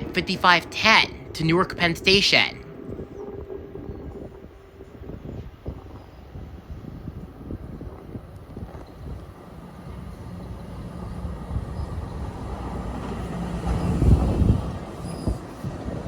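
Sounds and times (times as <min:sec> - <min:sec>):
passenger train approaching: 0:00.0 - 0:16.0.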